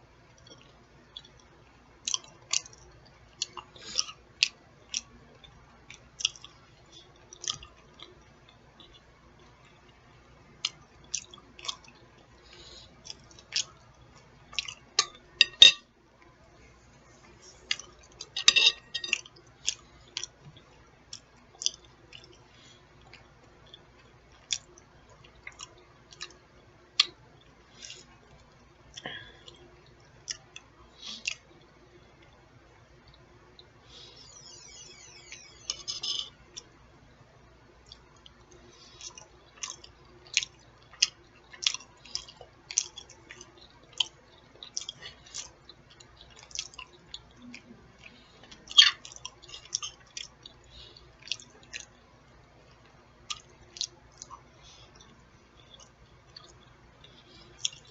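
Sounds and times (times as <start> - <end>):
person chewing food: 0.3 - 15.8, 17.1 - 32.4, 37.8 - 57.9.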